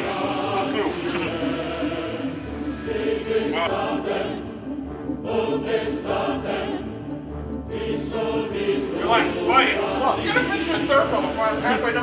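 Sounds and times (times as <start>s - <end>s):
choral singing music: 0.0s - 12.0s.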